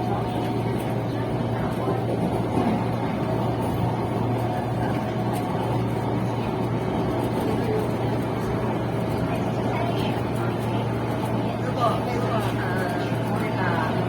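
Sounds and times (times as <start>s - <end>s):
passenger train rumble: 0.0s - 14.0s.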